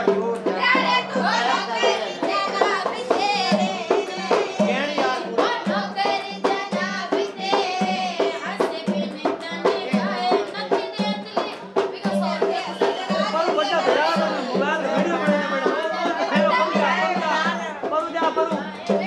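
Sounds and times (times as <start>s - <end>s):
fast percussion beat: 0.0s - 19.0s
person singing: 0.0s - 19.0s.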